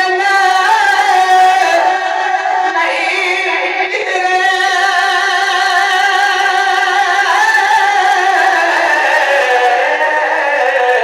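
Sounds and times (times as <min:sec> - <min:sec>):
man singing a long note: 0:00.0 - 0:11.0.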